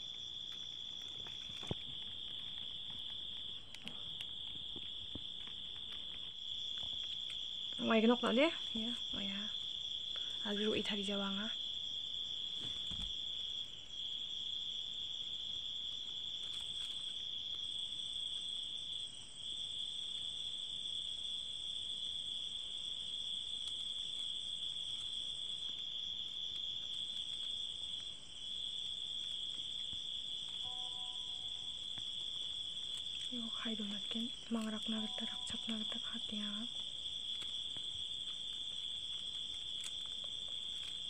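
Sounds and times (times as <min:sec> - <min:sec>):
cricket trilling: 0:00.0 - 0:41.0.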